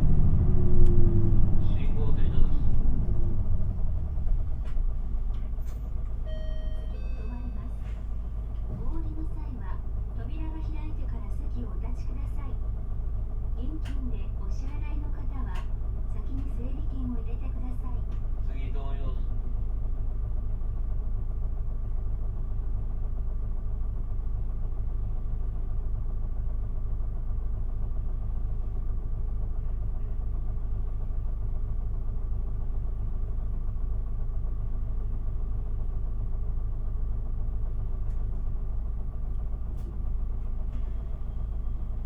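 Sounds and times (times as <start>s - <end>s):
bus diesel engine idling: 0.0s - 42.0s.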